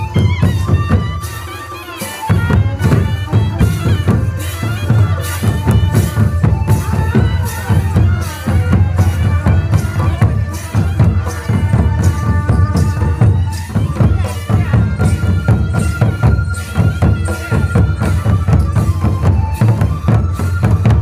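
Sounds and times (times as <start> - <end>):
barrel drums beating: 0.0 - 21.0
reedy wind instrument melody: 0.0 - 21.0.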